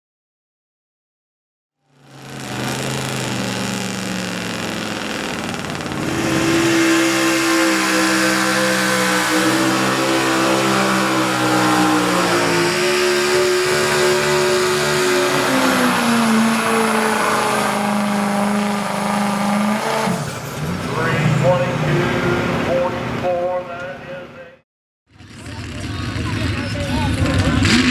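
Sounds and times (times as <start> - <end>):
truck engine running hard: 1.8 - 23.6, 25.1 - 27.9.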